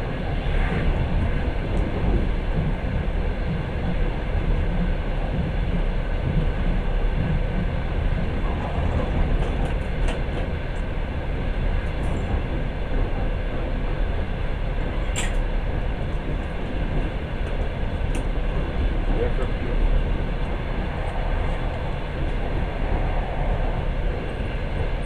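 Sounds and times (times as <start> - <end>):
wheels on rails running noise: 0.0 - 25.0.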